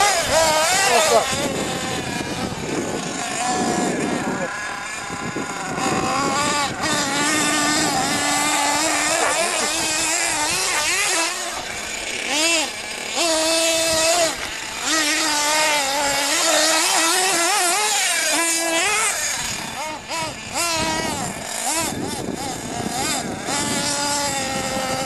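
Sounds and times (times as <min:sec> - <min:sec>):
small nitro engine revving: 0:00.0 - 0:25.0.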